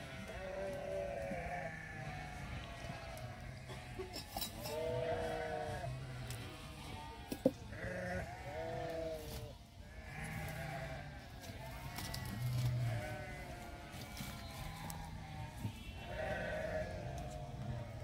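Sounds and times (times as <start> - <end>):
sheep bleating: 0.0 - 18.0.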